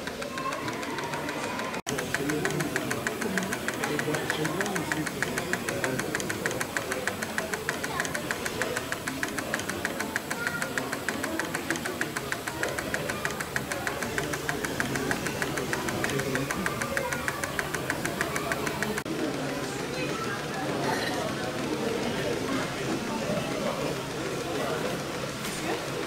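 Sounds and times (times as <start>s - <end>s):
faint voices murmuring: 0.0s - 26.0s
model steam engine clicking: 0.0s - 26.0s.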